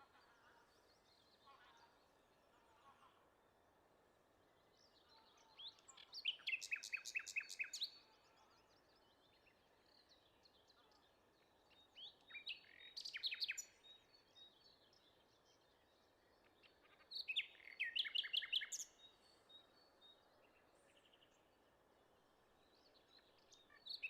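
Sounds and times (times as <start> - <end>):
songbird song phrases: 0.0 - 3.5, 4.2 - 24.0.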